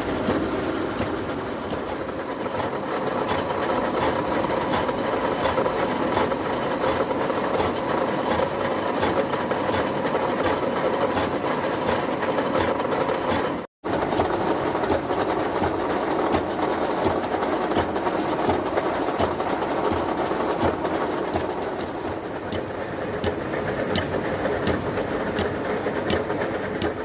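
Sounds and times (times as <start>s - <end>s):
fast even rattle of strokes: 0.0s - 27.0s.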